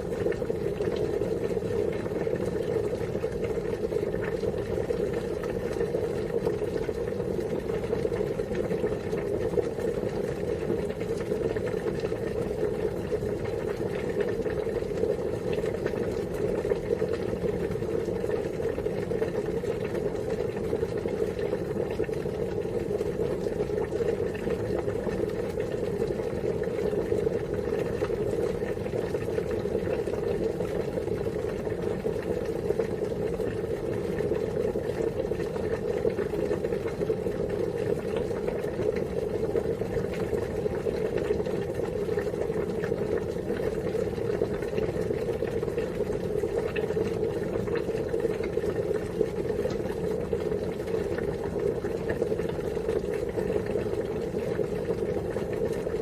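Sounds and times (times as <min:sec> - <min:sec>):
water boiling: 0:00.0 - 0:56.0.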